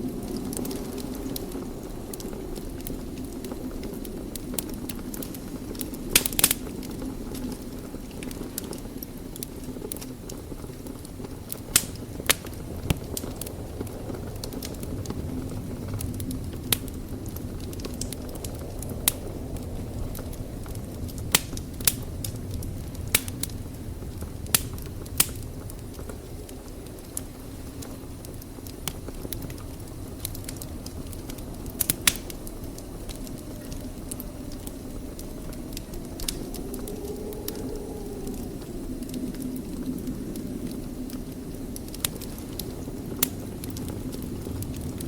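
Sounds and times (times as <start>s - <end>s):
fire low rumble: 0.0s - 45.0s
wood fire crackling and popping: 0.0s - 45.0s.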